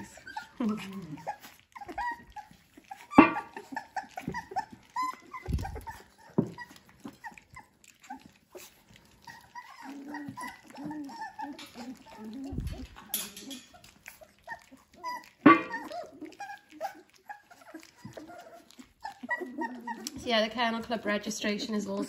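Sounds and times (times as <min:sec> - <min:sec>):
low puppy whines: 0:00.0 - 0:20.2
puppies whimpering and squeaking: 0:00.0 - 0:22.0.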